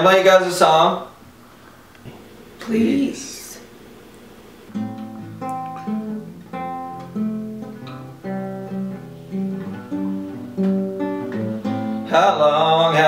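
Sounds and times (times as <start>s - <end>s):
acoustic guitar strumming chords: 2.2s - 13.0s.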